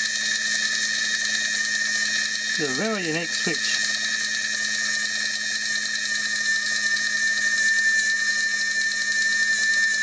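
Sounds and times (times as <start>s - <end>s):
small motor whining and humming: 0.0s - 10.0s.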